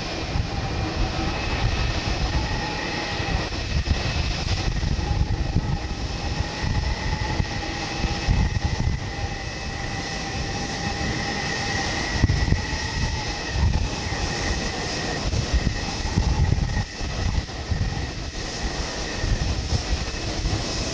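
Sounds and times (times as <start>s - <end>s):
gusty low rumble: 0.0s - 20.9s
jet engine high whine: 0.0s - 20.9s.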